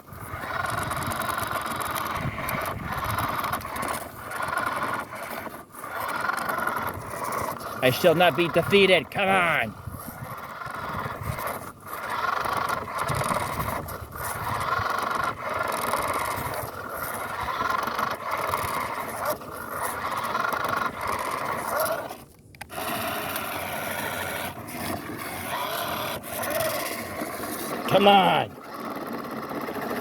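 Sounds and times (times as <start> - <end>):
small electric motor whining: 0.0 - 30.0
wheels scraping in sand: 0.0 - 30.0.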